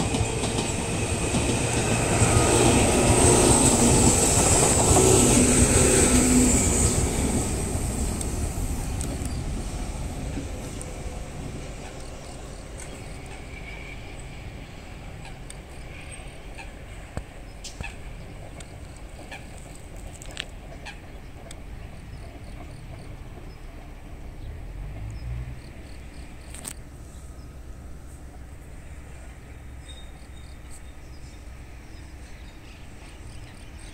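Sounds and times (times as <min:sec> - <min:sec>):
electric train passing: 0:00.0 - 0:33.9.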